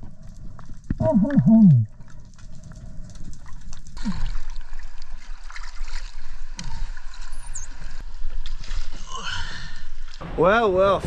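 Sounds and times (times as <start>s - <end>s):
water trickling and sloshing: 0.0s - 10.9s.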